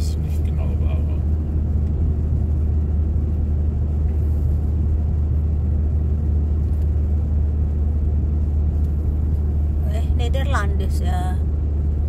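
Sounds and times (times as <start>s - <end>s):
car driving interior rumble: 0.0s - 12.0s.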